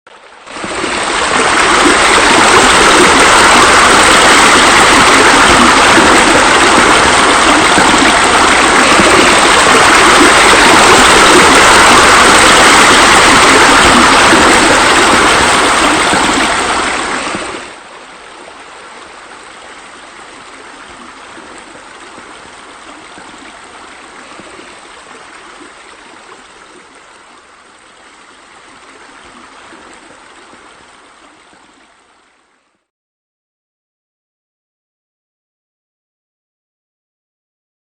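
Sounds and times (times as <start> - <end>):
waterfall pouring into pool: 0.1 - 32.1
water flowing: 0.1 - 32.6.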